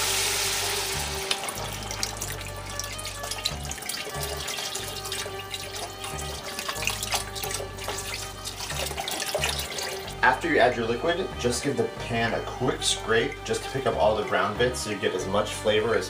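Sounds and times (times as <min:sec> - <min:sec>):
liquid pouring and splashing into pot: 0:00.0 - 0:14.6
background music with bass line: 0:00.0 - 0:16.0.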